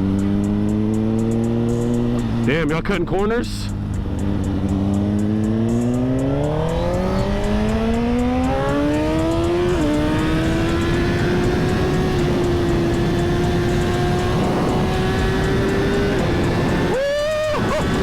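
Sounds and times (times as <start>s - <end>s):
motorcycle engine revving: 0.0s - 2.6s, 3.7s - 18.0s.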